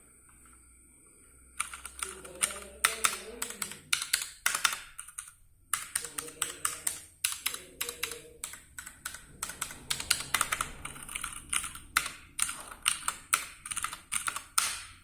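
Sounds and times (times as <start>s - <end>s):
mechanical keyboard typing: 1.6s - 15.0s.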